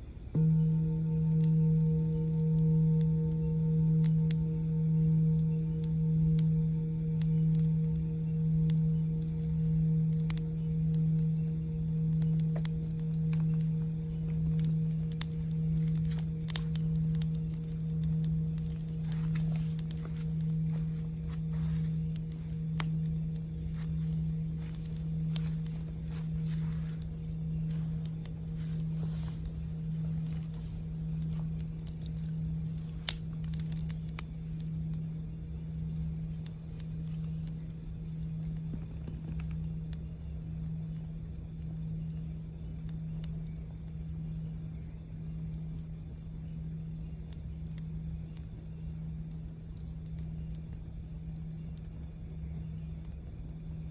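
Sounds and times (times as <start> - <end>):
singing bowl ringing: 0.0 - 45.7
campfire crackling: 0.0 - 53.9.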